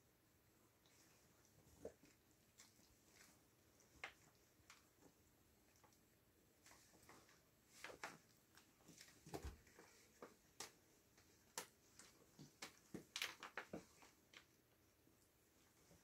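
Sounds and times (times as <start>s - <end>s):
kittens scuffling on fabric: 0.8s - 14.6s.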